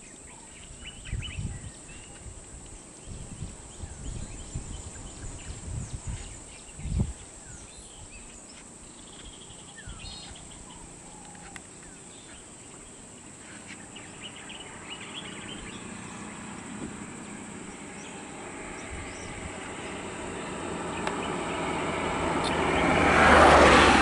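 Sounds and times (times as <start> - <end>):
birds chirping: 0.0 - 24.0
insects buzzing: 0.0 - 24.0.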